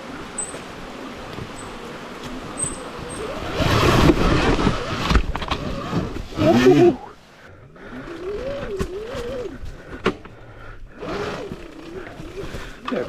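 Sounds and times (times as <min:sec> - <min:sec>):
riding noise: 0:00.0 - 0:13.0.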